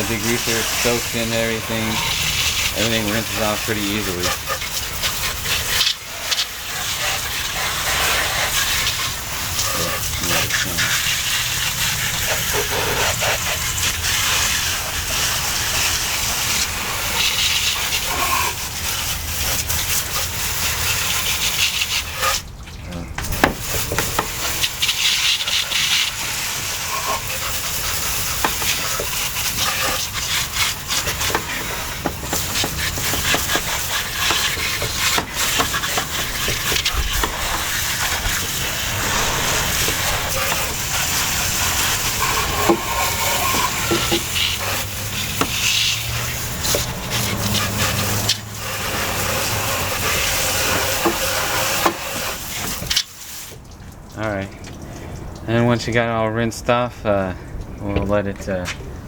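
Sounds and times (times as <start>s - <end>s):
hose spray hissing: 0.0s - 22.4s, 23.2s - 53.6s.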